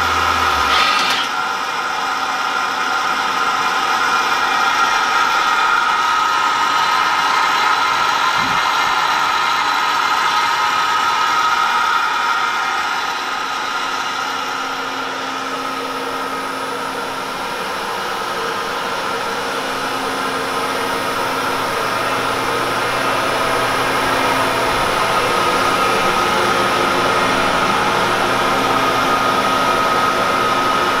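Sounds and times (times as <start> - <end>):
machine humming with high whine: 0.0 - 31.0.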